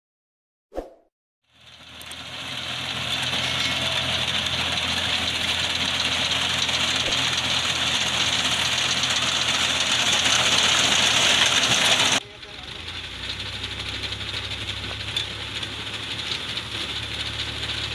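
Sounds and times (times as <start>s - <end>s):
tractor engine low hum: 1.5s - 17.9s
reaper binder mechanical noise: 2.1s - 17.9s.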